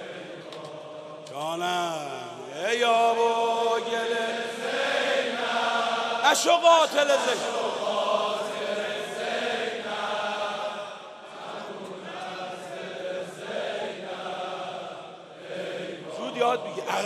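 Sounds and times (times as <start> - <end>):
crowd of men chanting: 0.0 - 17.0
lead reciter chanting: 0.0 - 17.0.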